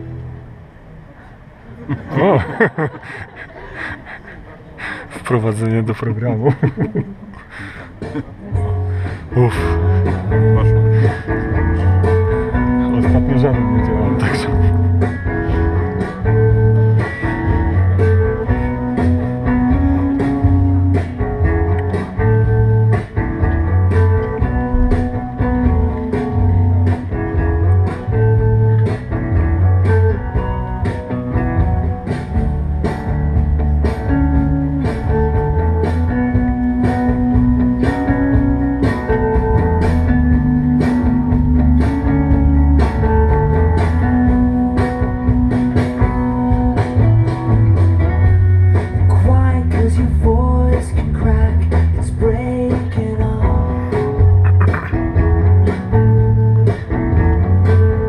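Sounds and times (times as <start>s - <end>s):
music with beat bass and guitar: 6.8s - 58.0s.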